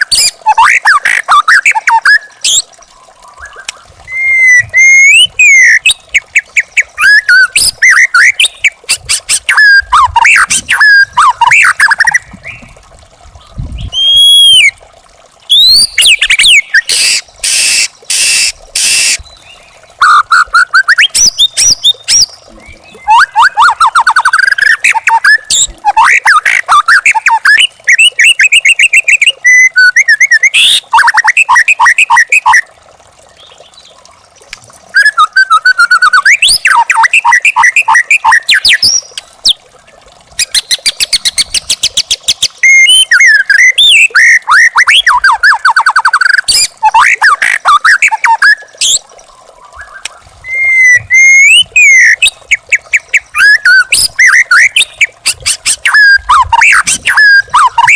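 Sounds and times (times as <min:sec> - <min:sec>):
bird singing varied phrases: 0:00.0 - 0:14.8, 0:15.5 - 0:34.2, 0:34.9 - 0:39.6, 0:40.4 - 0:57.9.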